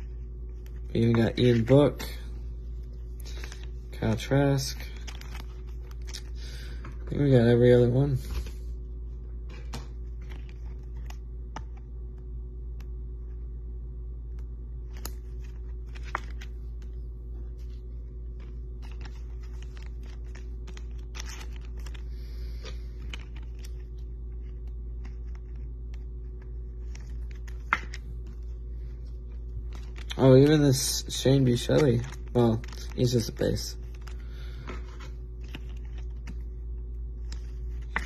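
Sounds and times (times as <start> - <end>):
trading cards clicking and rustling: 0.0 - 8.6, 9.4 - 13.4, 14.3 - 38.0
steady low hum: 0.0 - 38.0.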